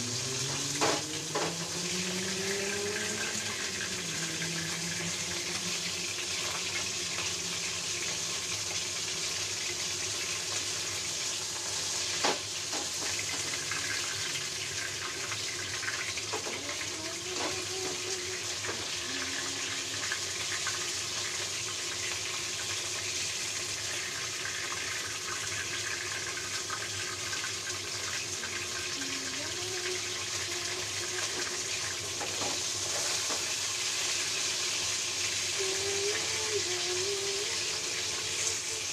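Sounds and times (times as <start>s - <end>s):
fish sizzling in hot oil: 0.0s - 38.9s.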